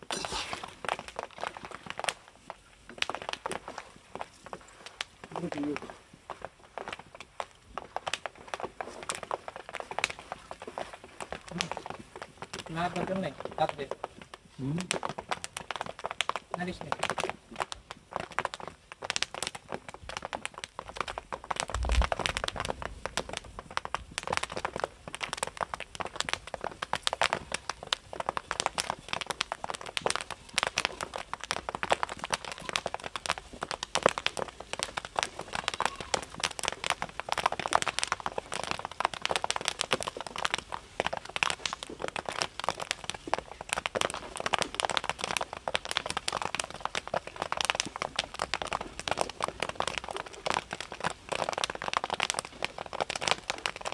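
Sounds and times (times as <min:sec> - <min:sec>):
popcorn popping in oil: 0:00.0 - 0:53.9.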